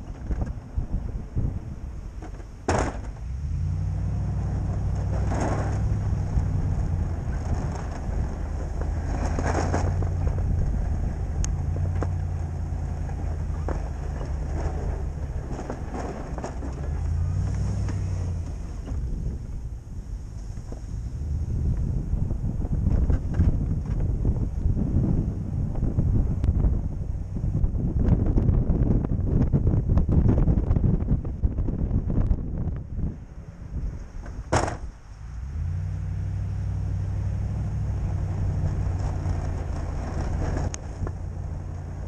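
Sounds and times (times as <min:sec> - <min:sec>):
truck engine running: 0:00.0 - 0:42.0
wind buffeting microphone: 0:00.0 - 0:42.0.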